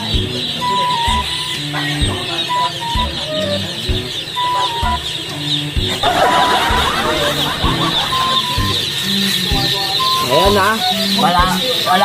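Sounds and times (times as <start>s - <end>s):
background music with beat: 0.0s - 12.0s
chicks peeping: 0.0s - 12.0s.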